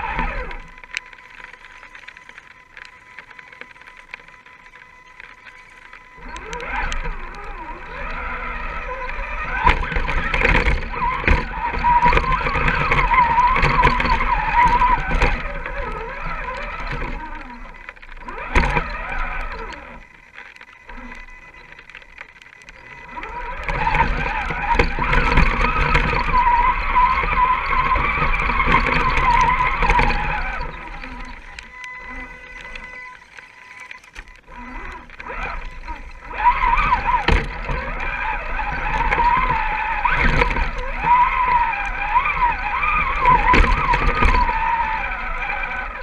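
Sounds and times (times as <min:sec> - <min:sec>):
electric motor and gear whine: 0:00.0 - 0:46.0.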